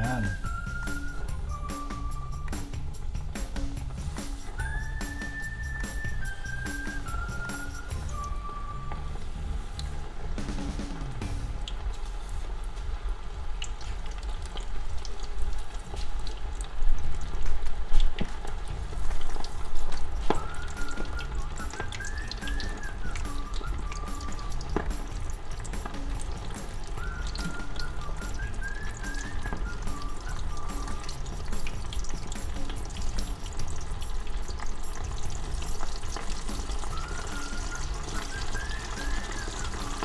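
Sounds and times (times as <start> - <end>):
chicken deep-frying in oil: 0.0 - 40.0
water boiling and bubbling: 0.0 - 40.0.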